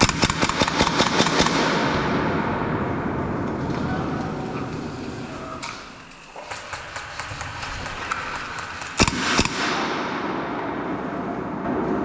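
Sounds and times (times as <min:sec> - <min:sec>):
sharp bangs: 0:00.0 - 0:12.0.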